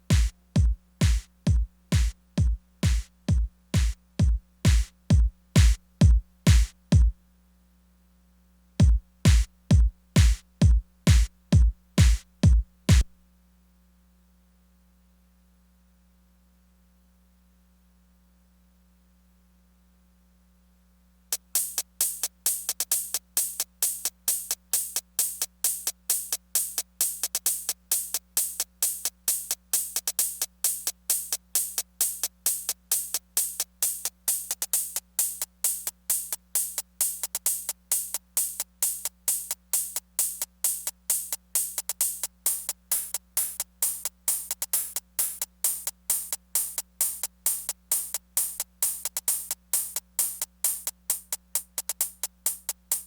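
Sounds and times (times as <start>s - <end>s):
drum machine loop: 0.0s - 7.2s, 8.8s - 13.1s, 21.4s - 53.0s
faint steady hum: 0.0s - 53.0s.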